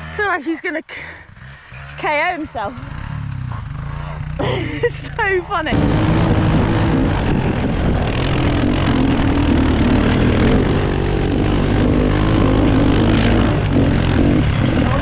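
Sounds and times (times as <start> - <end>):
small off-road engine running: 0.0 - 15.0.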